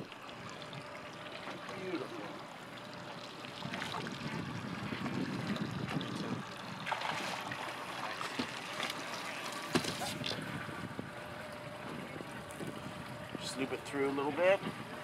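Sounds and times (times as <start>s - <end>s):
water splashing against boat: 0.0s - 15.0s.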